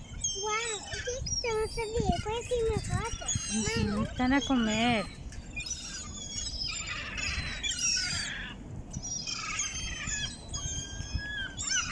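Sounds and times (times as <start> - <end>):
seagulls calling: 0.0 - 11.9.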